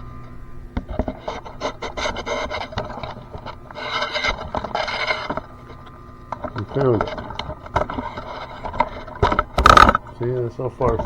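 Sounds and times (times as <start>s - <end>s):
scattered clicks: 0.2s - 11.0s
rubbing and scraping: 0.8s - 11.0s.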